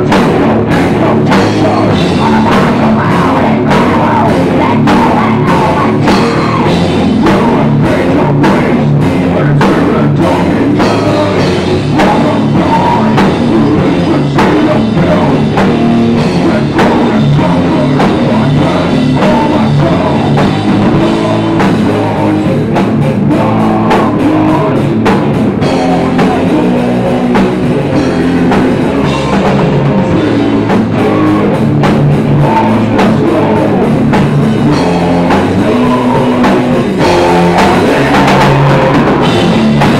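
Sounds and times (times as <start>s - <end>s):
distorted electric guitar: 0.0s - 39.9s
person singing into a microphone: 0.0s - 39.9s
pounding drum kit: 0.0s - 39.9s.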